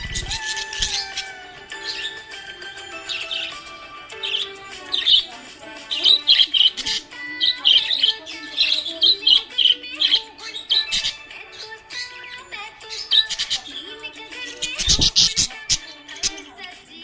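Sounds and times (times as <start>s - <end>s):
small parrots chirping: 0.0s - 16.5s
background music with held notes: 0.0s - 17.0s.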